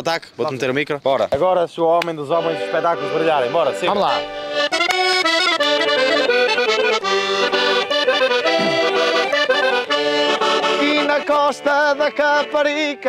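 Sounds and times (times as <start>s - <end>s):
accordion folk music: 2.2s - 13.0s.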